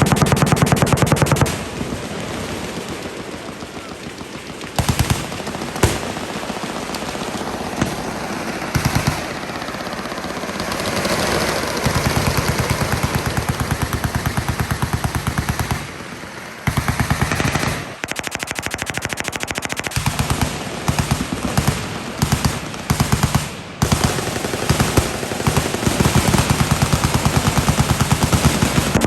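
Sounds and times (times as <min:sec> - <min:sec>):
machine guns firing bursts: 0:00.0 - 0:29.0.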